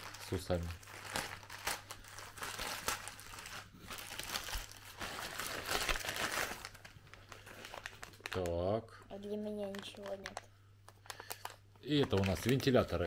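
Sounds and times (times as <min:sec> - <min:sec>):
plastic bag crinkling: 0:00.0 - 0:08.7, 0:09.3 - 0:13.0.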